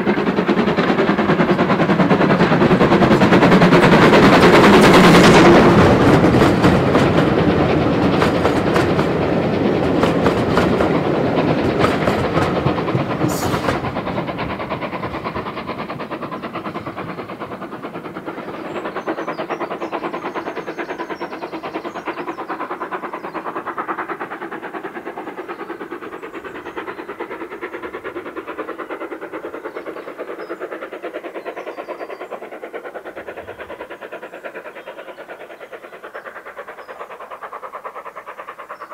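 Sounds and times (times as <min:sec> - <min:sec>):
rail noise: 0:00.0 - 0:38.9
steam locomotive exhaust beats: 0:00.0 - 0:38.9.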